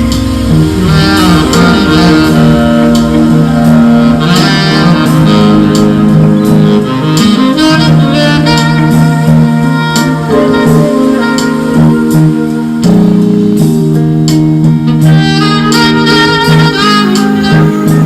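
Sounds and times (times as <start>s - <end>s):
pop music accompaniment: 0.0s - 18.0s
saxophone melody: 0.0s - 18.0s.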